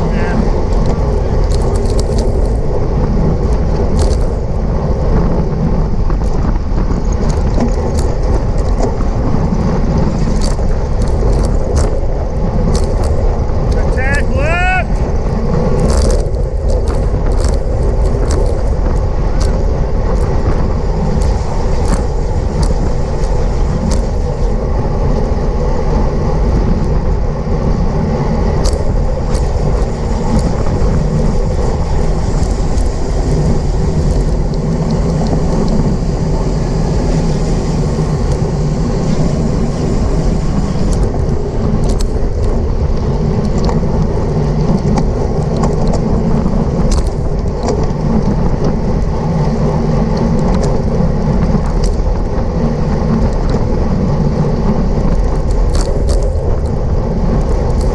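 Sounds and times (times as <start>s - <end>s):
bicycle clicks: 0.0s - 57.9s
wind rushing over microphone: 0.0s - 57.9s.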